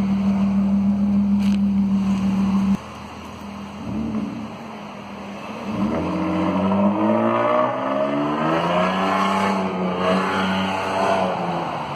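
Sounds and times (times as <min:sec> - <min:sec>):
car accelerating with loud exhaust: 0:00.0 - 0:11.9.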